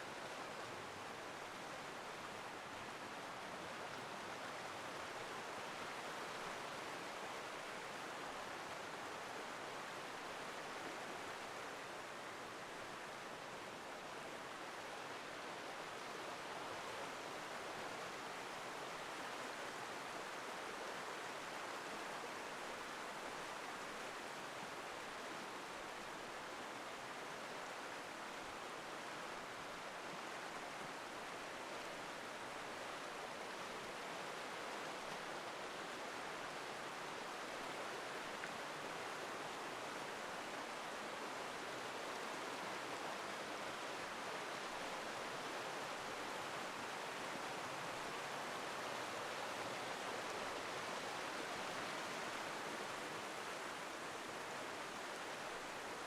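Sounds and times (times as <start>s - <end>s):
river rushing over small waterfalls: 0.0s - 56.0s.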